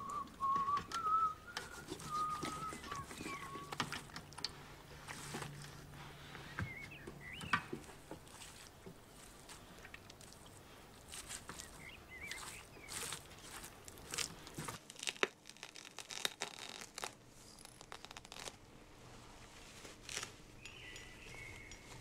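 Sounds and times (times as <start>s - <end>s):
crinkling and tearing: 0.0s - 5.9s, 7.9s - 18.7s, 19.5s - 20.6s.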